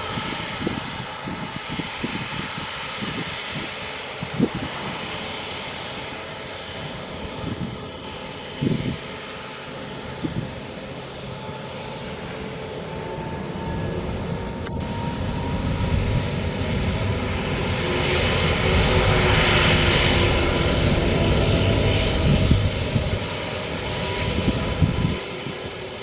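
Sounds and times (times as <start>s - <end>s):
jet airliner roar passing: 0.0s - 26.0s.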